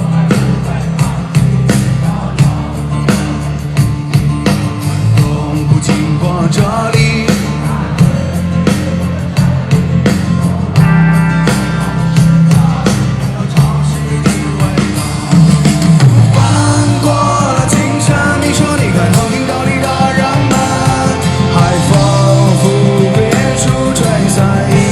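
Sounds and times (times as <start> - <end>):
rock music with singing: 0.0 - 24.9.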